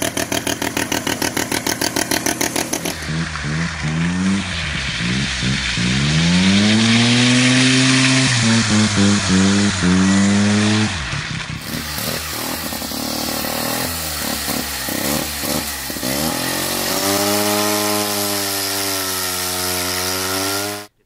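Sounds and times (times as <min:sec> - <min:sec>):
go-kart engine running: 0:00.0 - 0:20.9
chainsaw cutting log: 0:00.0 - 0:21.0
chainsaw revving: 0:00.0 - 0:21.0.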